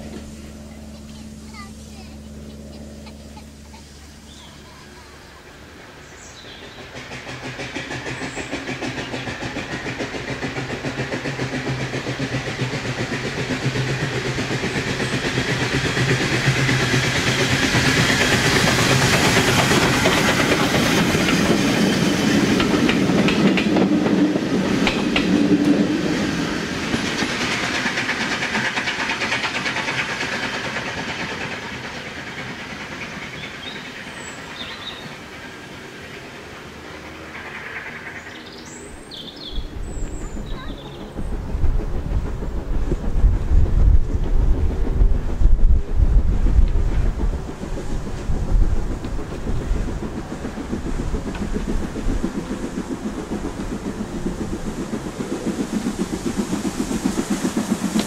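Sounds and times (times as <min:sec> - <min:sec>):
steam locomotive exhaust beats: 0:00.0 - 0:58.0
wheels clattering over rail joints: 0:06.3 - 0:58.0.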